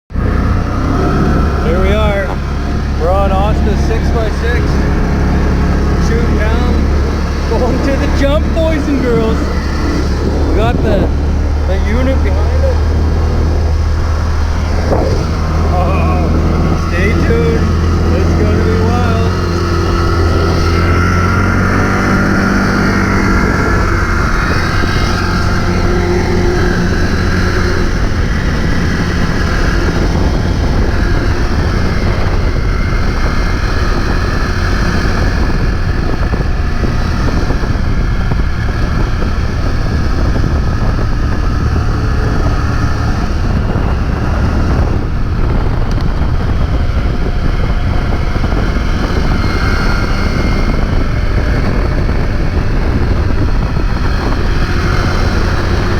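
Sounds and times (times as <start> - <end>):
vehicle engine running: 0.0 - 55.9
wind buffeting microphone: 0.1 - 55.9.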